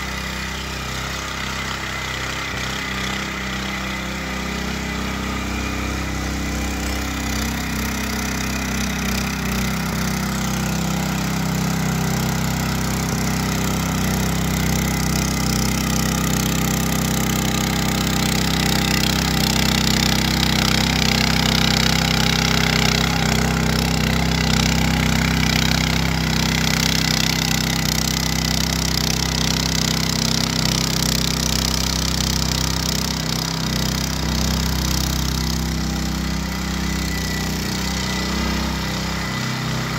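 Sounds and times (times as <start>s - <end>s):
tiller blades churning soil: 0.0s - 39.9s
tiller engine running under load: 0.0s - 39.9s.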